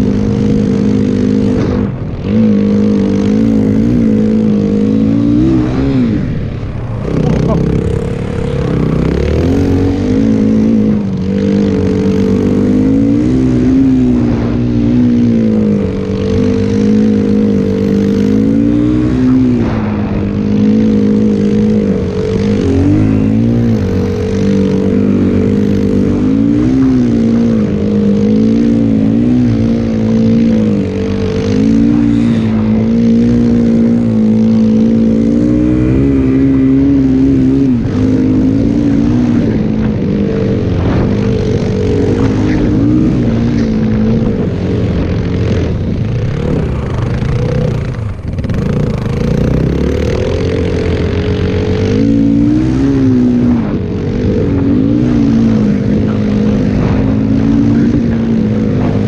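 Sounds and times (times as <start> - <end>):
snowbike engine revving: 0.0 - 59.0.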